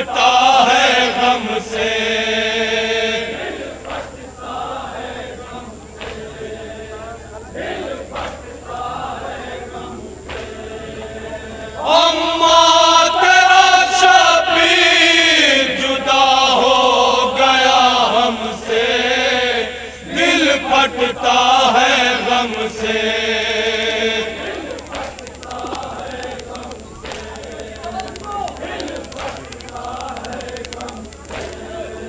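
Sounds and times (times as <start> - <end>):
men chanting a lament: 0.0 - 32.0.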